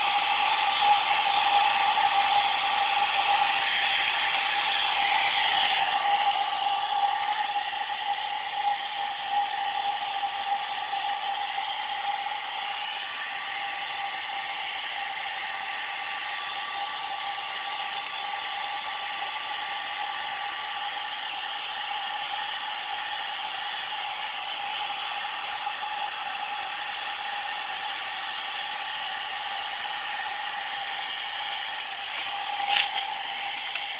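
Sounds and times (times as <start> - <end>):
hair dryer whining: 0.0 - 33.9.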